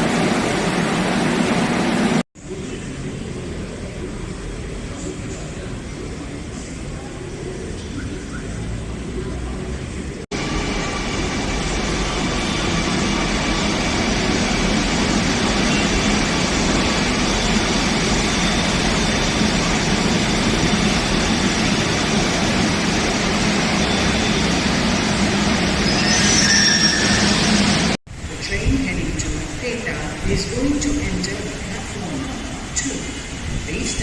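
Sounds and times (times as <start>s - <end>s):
train running on track: 0.0s - 34.0s.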